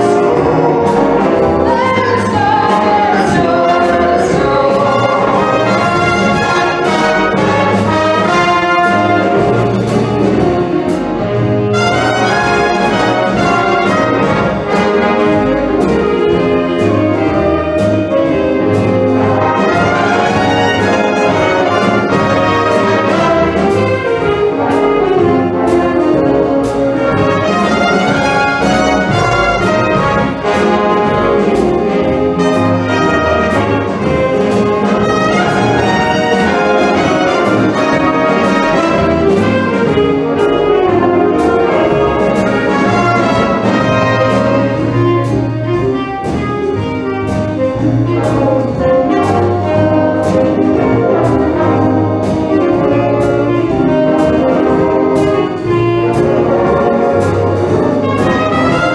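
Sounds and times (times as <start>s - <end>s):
wind band with brass playing: 0.0s - 58.9s.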